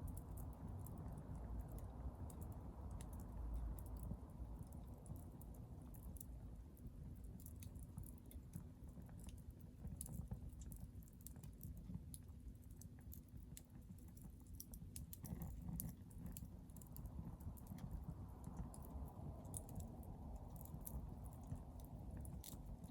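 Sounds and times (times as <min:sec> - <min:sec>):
fire crackling and popping: 0:00.0 - 0:22.9
low rumble of flames: 0:00.0 - 0:22.9.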